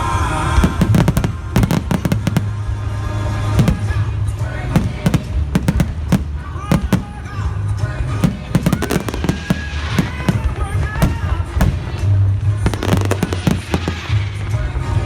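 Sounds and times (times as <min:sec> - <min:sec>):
fireworks bangs and crackles: 0:00.0 - 0:15.0
loud music with heavy bass: 0:00.0 - 0:15.0.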